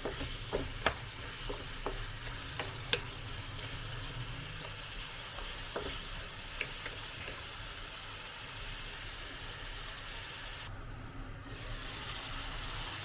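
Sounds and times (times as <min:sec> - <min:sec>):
food sizzling in a pan: 0:00.0 - 0:10.7, 0:11.4 - 0:13.0.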